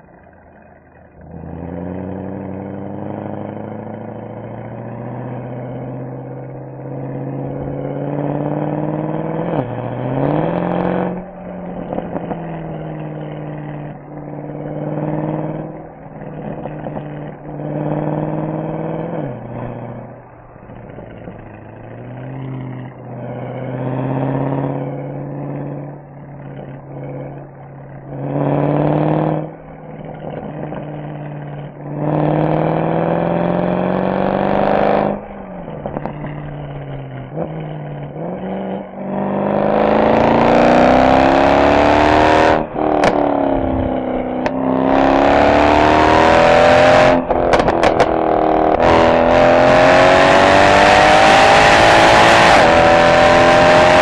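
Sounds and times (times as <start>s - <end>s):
car exhaust accelerating hard: 0.0s - 54.0s.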